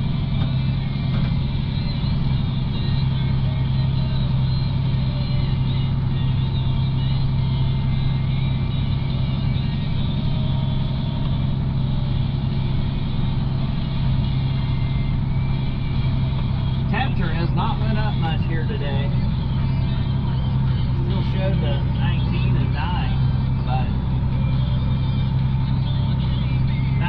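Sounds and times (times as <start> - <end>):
vehicle engine running steadily: 0.0 - 27.0.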